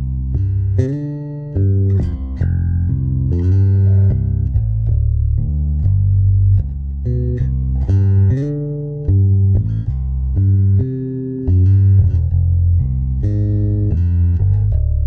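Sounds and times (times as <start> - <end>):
electric bass guitar plucked notes: 0.0 - 15.0.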